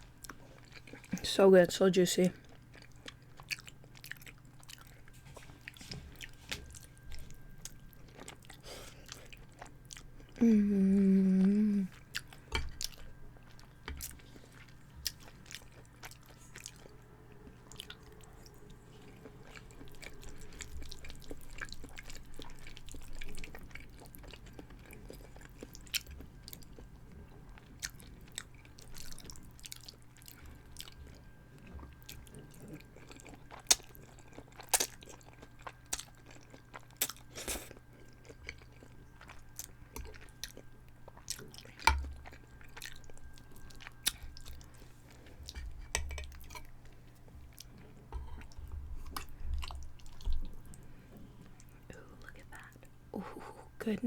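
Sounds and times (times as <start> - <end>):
chewing and wet mouth sounds: 0.0 - 53.6.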